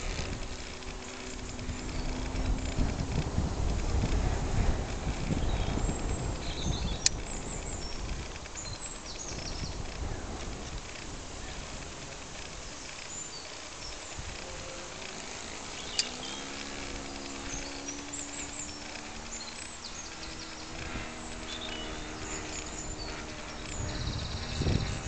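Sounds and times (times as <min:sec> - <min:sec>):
birds chirping: 0:00.0 - 0:25.0
model plane engine drone: 0:00.0 - 0:25.0.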